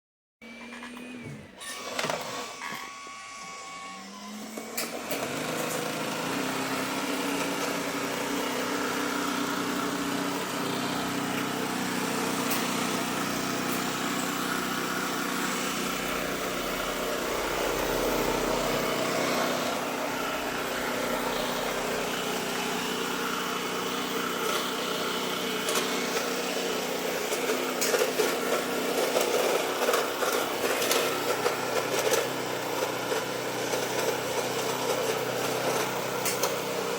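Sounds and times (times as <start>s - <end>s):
robot vacuum motor hum: 0.4s - 36.9s.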